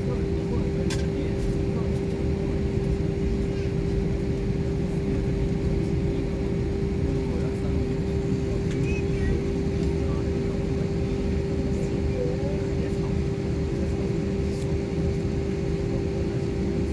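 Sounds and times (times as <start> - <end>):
airliner cabin drone: 0.0 - 16.9.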